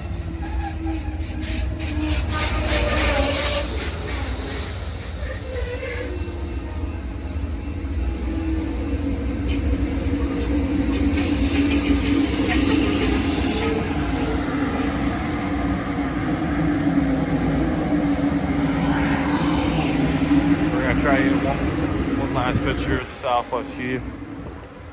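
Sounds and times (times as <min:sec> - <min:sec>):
high-pitched wheel squeal: 0:00.0 - 0:07.6, 0:09.2 - 0:22.1
train wheels rumbling on rails: 0:00.0 - 0:24.9.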